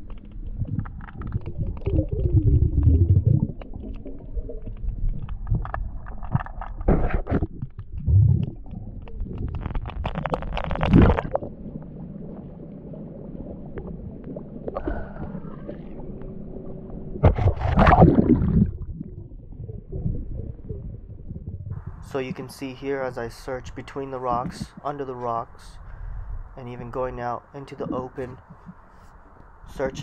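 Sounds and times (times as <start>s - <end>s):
muffled underwater rumbling and gurgling: 0.0s - 30.0s.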